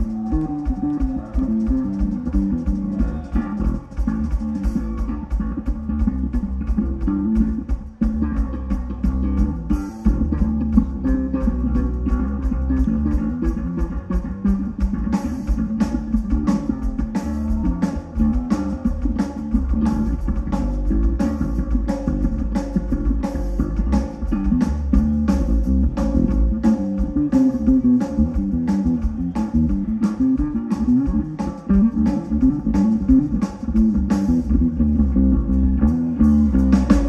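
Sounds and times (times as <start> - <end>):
drum kit beat: 0.0 - 37.0
electric bass guitar solo: 0.0 - 37.0.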